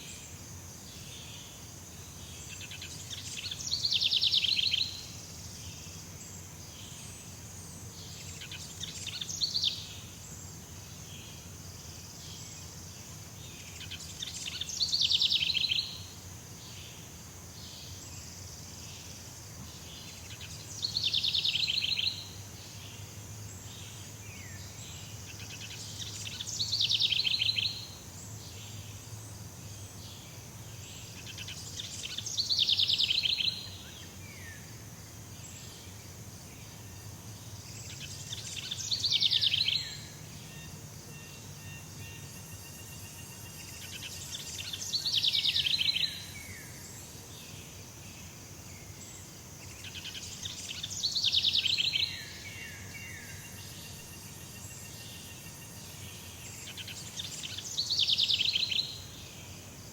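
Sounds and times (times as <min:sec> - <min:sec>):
high insect hiss: 0:00.0 - 0:59.9.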